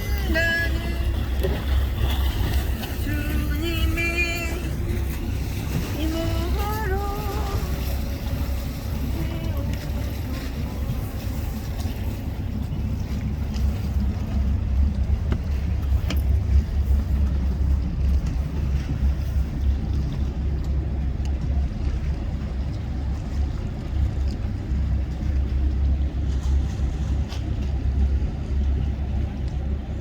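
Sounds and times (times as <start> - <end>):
boat engine rumble: 0.0 - 30.0.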